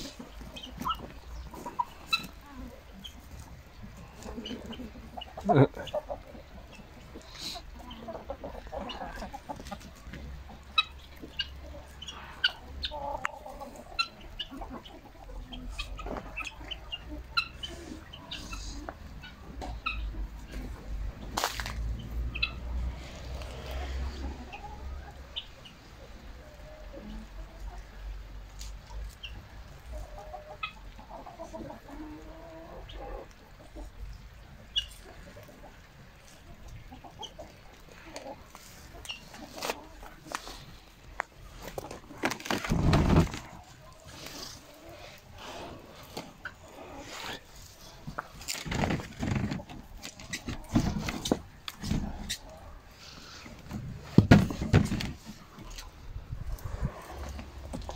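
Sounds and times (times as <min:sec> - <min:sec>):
chickens clucking: 0:00.0 - 0:57.9
hens low murmuring calls: 0:00.0 - 0:57.9.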